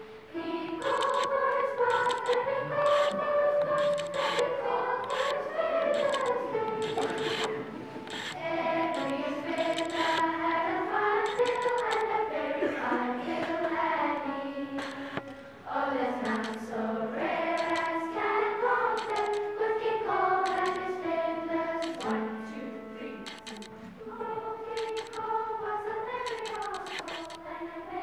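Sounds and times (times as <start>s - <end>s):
children's choir singing: 0.0s - 28.0s.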